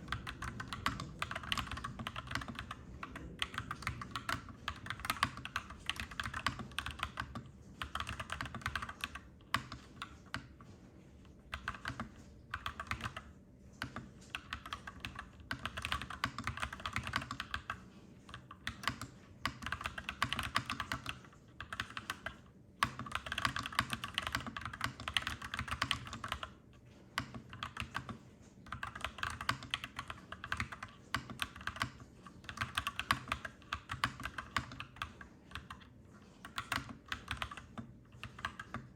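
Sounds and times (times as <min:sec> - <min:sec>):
mechanical keyboard typing: 0:00.0 - 0:10.7, 0:11.5 - 0:38.9.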